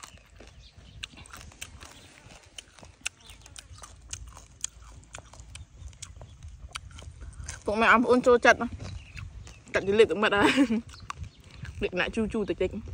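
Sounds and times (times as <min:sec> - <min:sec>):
chewing crunchy food: 0:00.0 - 0:12.9.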